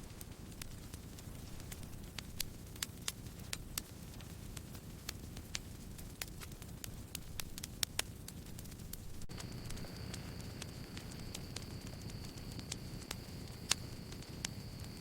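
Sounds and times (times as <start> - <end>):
campfire crackling and popping: 0.0 - 15.0
low rush of flames: 0.0 - 15.0.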